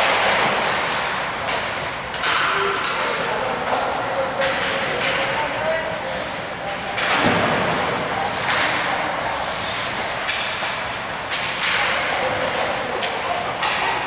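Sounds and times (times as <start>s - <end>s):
sticks clacking on puck: 0.0s - 5.6s, 6.7s - 9.0s, 9.9s - 14.0s
skates scraping ice: 0.0s - 14.0s.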